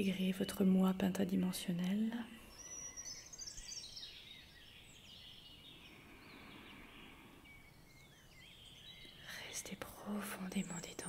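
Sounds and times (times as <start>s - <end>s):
faint bird chirps: 0.0s - 11.0s
low background hiss: 0.0s - 11.0s.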